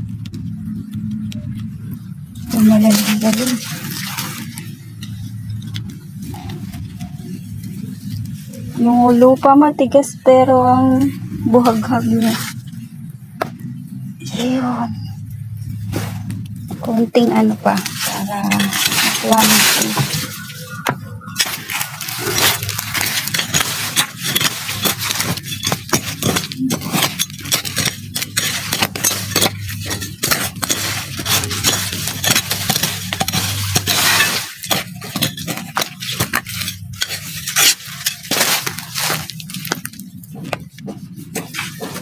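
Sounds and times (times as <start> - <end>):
digging in crumbly soil: 0.0 - 13.0, 13.6 - 42.0.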